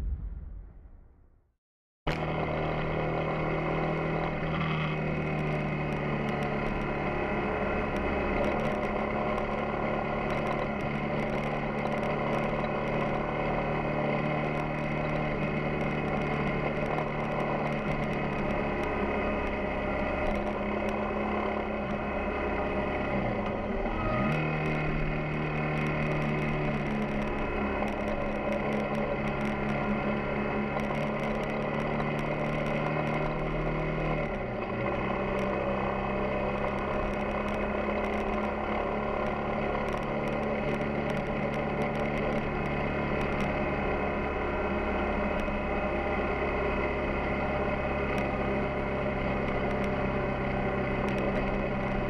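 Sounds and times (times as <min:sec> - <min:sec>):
motorcycle engine running: 0:02.1 - 0:52.0.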